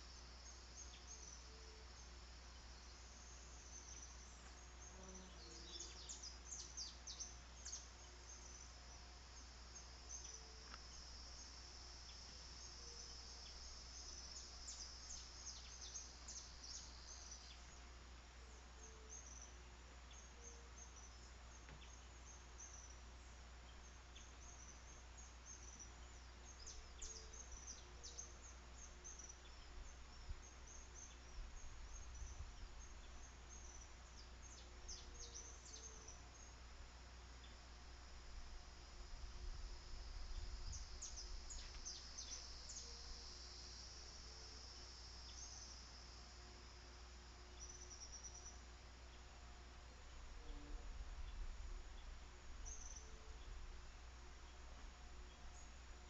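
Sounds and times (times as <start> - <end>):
constant low hum: 0.0 - 56.0
high insect trill: 0.0 - 56.0.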